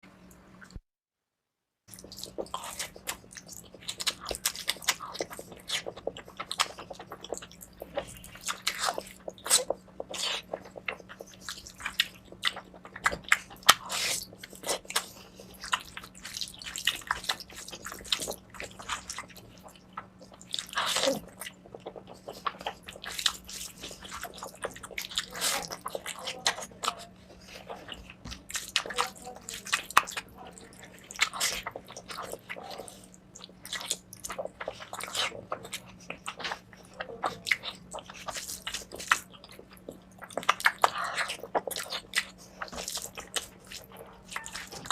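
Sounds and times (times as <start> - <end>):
faint steady hum: 0.0 - 0.8, 1.9 - 44.9
wet chewing and smacking: 1.9 - 44.9.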